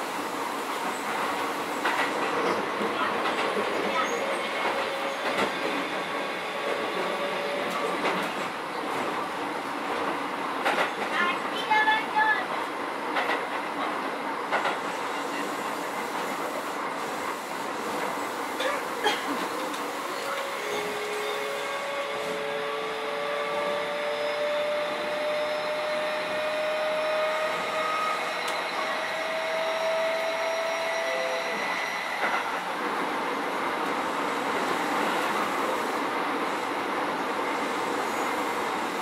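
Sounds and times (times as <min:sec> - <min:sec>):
electric train running rumble: 0:00.0 - 0:39.0.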